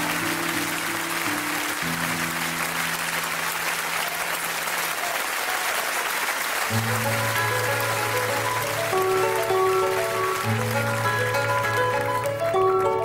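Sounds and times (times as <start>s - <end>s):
slow music with held notes: 0.0s - 4.6s, 6.7s - 13.0s
audience applauding: 0.0s - 13.0s.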